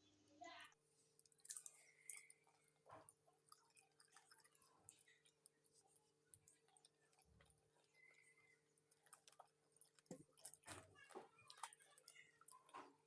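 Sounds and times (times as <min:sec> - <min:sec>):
wet chewing clicks: 0:01.0 - 0:13.0.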